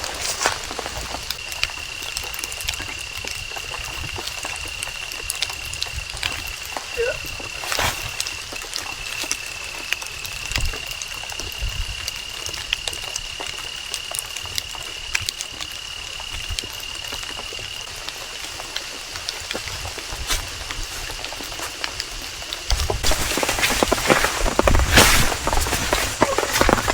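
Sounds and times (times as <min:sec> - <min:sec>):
rain dripping on leaves: 0:00.0 - 0:26.9.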